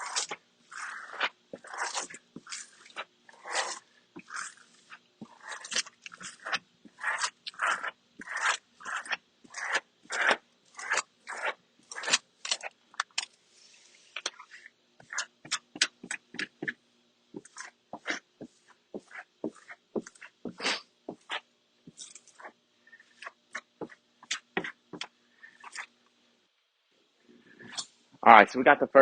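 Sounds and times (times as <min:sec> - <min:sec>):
squeegee scraping across vinyl: 0:00.0 - 0:12.8, 0:13.5 - 0:16.8, 0:17.4 - 0:25.9.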